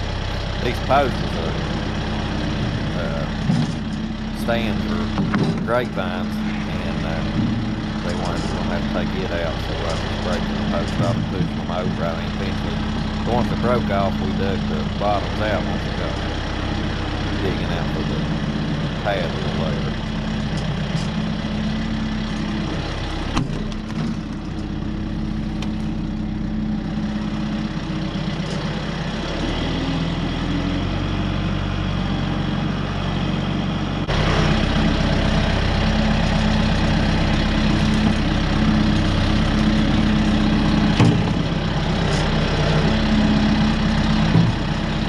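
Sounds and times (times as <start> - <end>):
diesel tractor engine running: 0.0 - 45.0.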